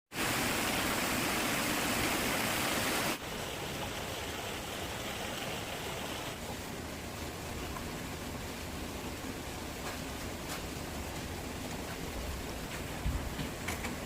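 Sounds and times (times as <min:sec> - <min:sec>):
running water rushing: 0:00.1 - 0:14.0.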